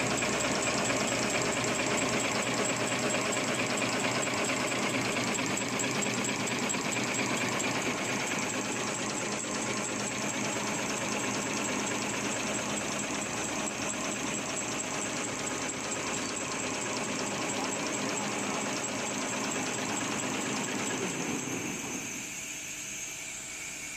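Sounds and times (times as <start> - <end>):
folding machine running: 0.0 - 22.4.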